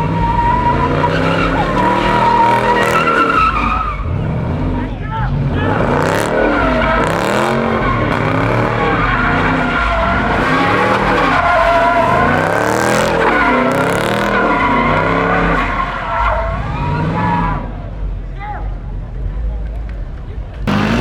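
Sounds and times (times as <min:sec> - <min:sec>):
car engine revving: 0:00.0 - 0:17.9, 0:20.6 - 0:21.0
tyres skidding: 0:00.0 - 0:21.0.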